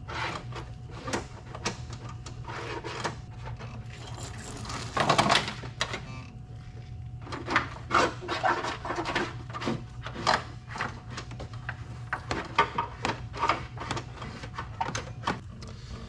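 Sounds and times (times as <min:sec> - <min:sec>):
steady low hum: 0:00.0 - 0:16.0
rustling and scraping of plastic trim: 0:00.1 - 0:06.2, 0:07.2 - 0:15.4.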